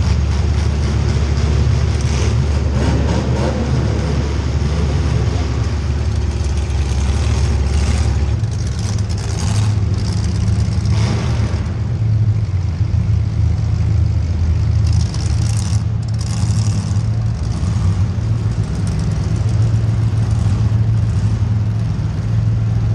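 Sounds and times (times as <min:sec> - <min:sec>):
race car engine droning: 0:00.0 - 0:22.9.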